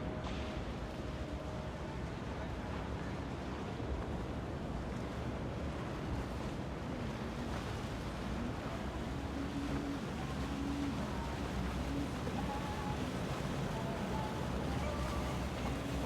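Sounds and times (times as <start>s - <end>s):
water on open water: 0.0s - 16.0s
wind: 0.0s - 16.0s.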